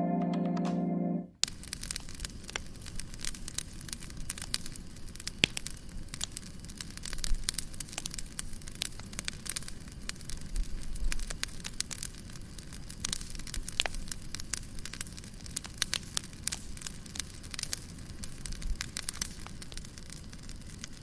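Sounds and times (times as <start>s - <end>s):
wood fire crackling: 1.4s - 21.0s.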